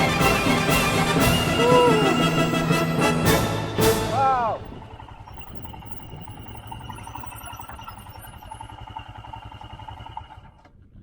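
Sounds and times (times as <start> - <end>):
steady whine: 0.0 - 10.6
motorcycle engine running: 0.0 - 11.0.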